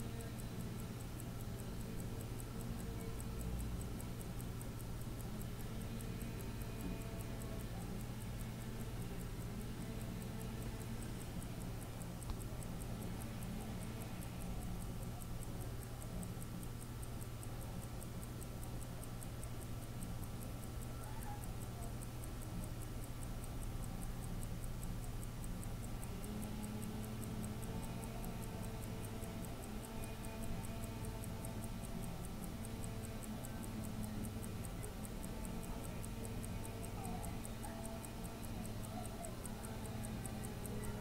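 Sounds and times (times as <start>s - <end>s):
steady low hum: 0.0s - 41.0s
wristwatch ticking: 0.0s - 41.0s.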